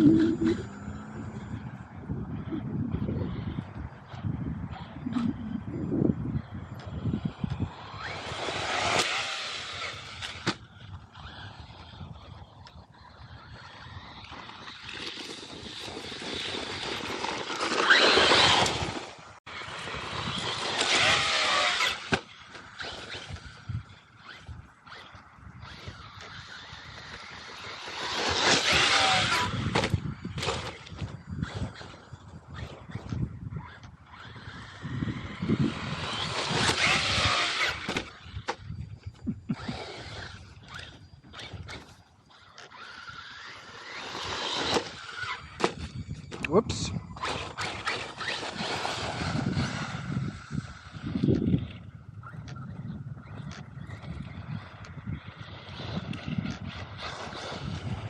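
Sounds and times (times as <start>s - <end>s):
rc truck motor whine: 0.0s - 58.0s
tyres on dirt: 0.0s - 58.0s.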